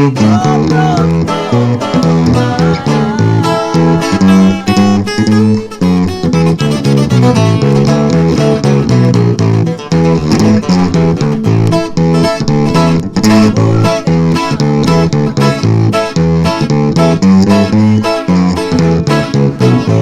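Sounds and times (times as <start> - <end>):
bass line: 0.0 - 20.0
plucked lead guitar with bent notes: 0.0 - 20.0
strummed guitar: 0.0 - 20.0.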